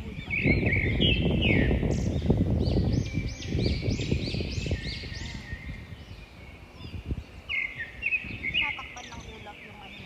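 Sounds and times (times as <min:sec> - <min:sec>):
bird calling rising and falling notes: 0:00.2 - 0:10.0.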